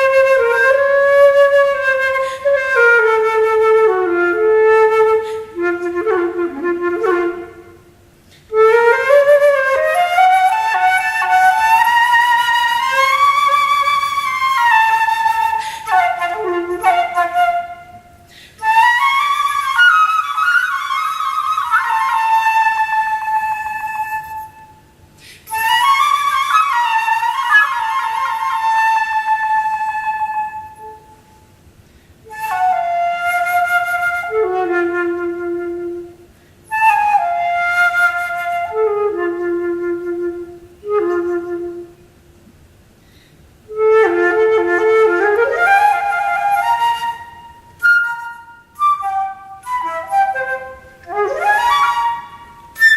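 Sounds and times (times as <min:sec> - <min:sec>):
solo flute playing: 0:00.0 - 0:31.6, 0:32.2 - 0:42.2, 0:43.7 - 0:52.9.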